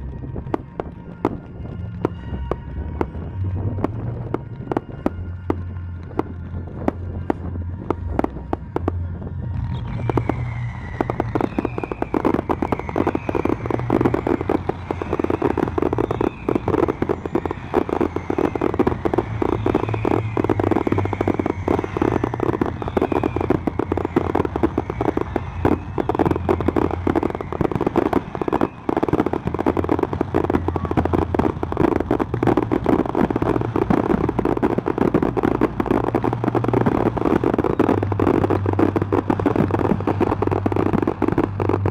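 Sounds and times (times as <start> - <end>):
faint high firework whistles: 0.0 - 41.9
fireworks bangs and crackles: 0.0 - 41.9.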